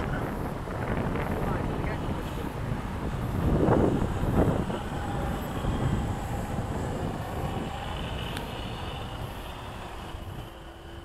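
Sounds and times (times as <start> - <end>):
wind buffeting microphone: 0.0 - 11.0
model plane motor whine: 0.5 - 11.0.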